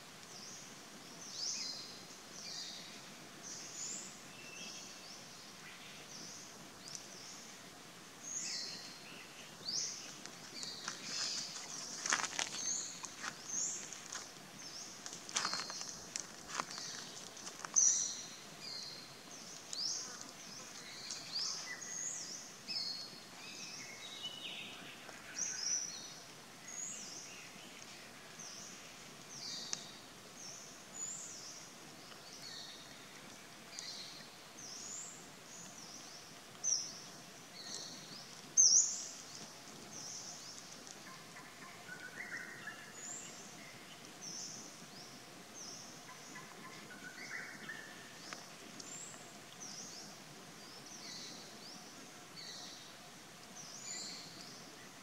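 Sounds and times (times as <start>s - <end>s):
faint steady hiss: 0.0s - 55.0s
birds chirping: 0.3s - 55.0s.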